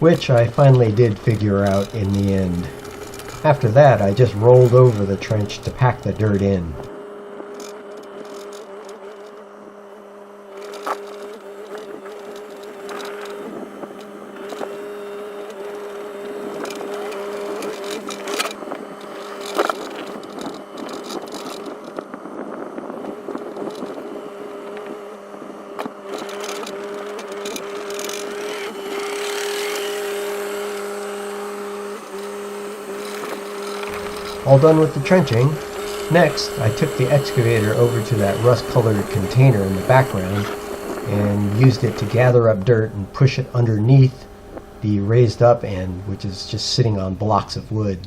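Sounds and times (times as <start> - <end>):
compact excavator engine running: 0.0 - 48.0.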